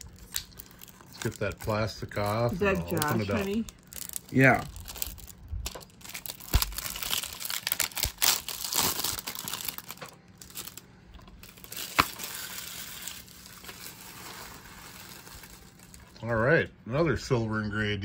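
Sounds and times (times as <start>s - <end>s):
plastic wrap crinkling and tearing: 0.0s - 16.3s.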